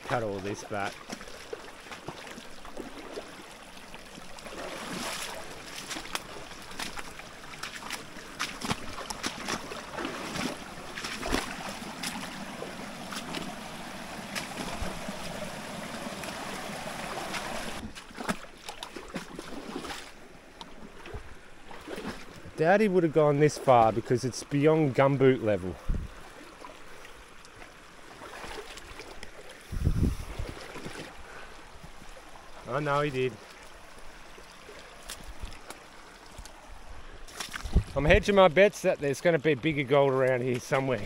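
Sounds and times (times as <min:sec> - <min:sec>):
wading water sloshing: 0:00.0 - 0:38.5.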